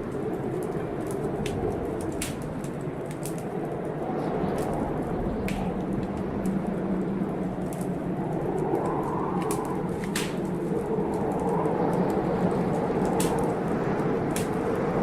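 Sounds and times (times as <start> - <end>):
fire crackling and popping: 0.0 - 15.0
wind and rain storm: 0.0 - 15.0.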